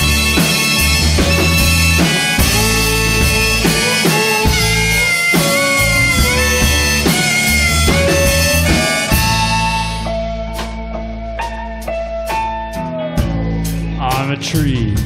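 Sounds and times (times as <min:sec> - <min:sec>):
bass guitar: 0:00.0 - 0:15.0
bending lead guitar melody: 0:00.0 - 0:15.0
drums: 0:00.0 - 0:15.0.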